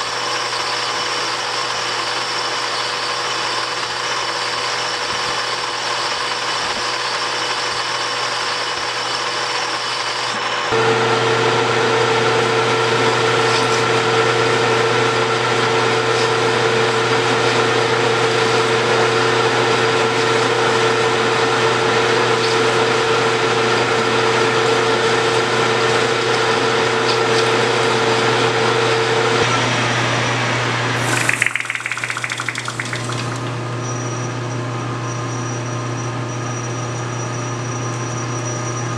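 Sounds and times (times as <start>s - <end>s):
lathe motor and gear whine: 0.0s - 38.9s.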